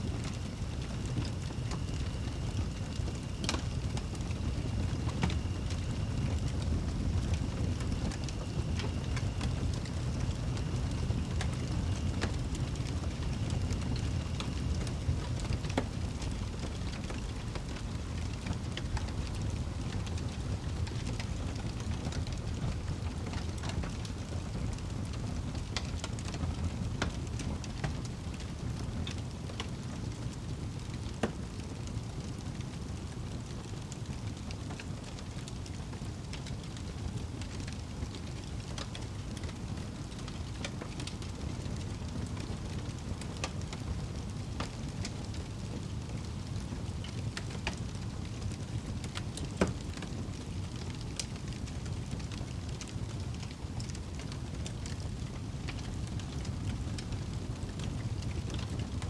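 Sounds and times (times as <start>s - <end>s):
fire low rumble: 0.0s - 59.0s
log fire crackling: 0.0s - 59.0s.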